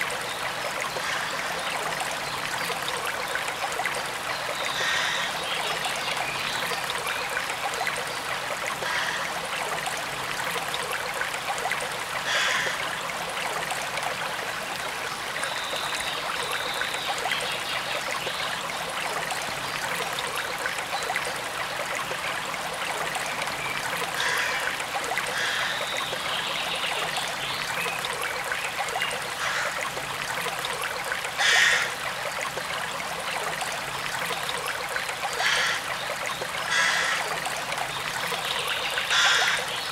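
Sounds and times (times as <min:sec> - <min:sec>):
stream trickling over stones: 0:00.0 - 0:39.9
water splashes: 0:00.0 - 0:39.9.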